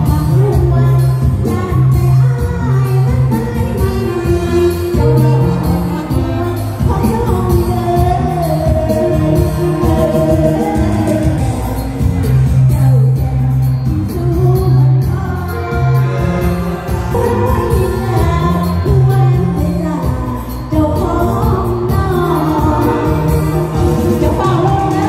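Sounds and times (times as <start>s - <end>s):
electronic keyboard with bass line: 0.0s - 25.0s
person singing through speakers: 0.0s - 25.0s.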